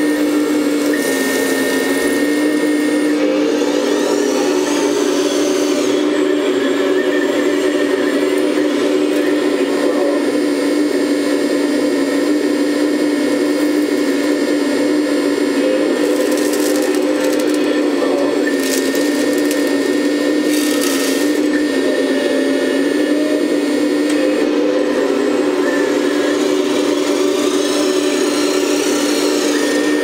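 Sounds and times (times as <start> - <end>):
hydraulic pump humming drone: 0.0 - 30.0.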